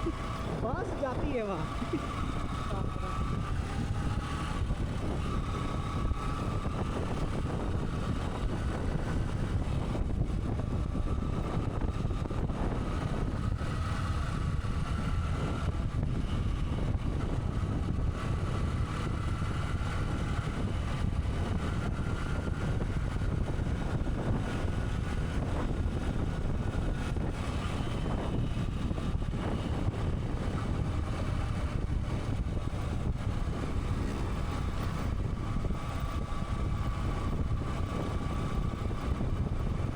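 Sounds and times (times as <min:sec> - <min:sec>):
motorcycle engine rumble: 0:00.0 - 0:39.9
road and wind noise: 0:00.0 - 0:39.9.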